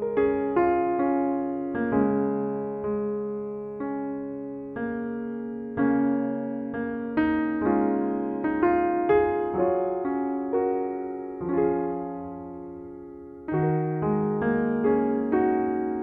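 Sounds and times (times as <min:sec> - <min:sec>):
slow solo piano music: 0:00.0 - 0:16.0.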